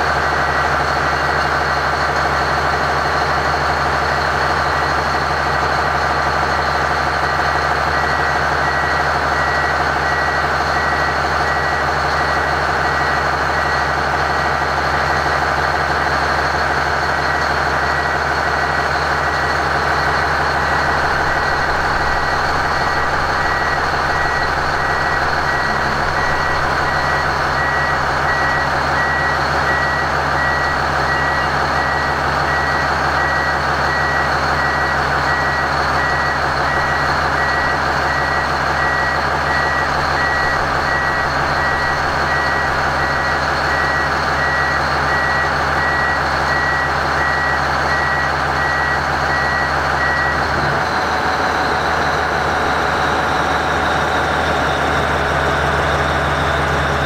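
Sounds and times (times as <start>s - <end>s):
diesel engine running: 0.0s - 57.0s
reversing alarm beeping: 0.0s - 57.0s.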